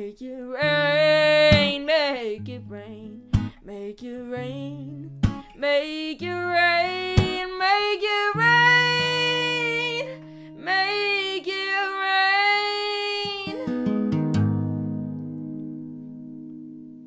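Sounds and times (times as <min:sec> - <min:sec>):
strummed acoustic guitar: 0:00.6 - 0:03.7, 0:04.4 - 0:11.3, 0:12.3 - 0:17.0.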